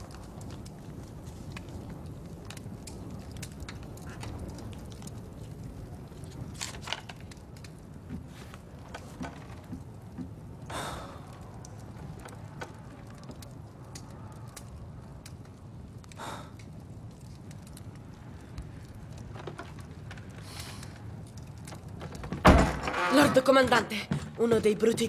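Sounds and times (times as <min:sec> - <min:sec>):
faint clicks and crackles: 0:00.0 - 0:25.0.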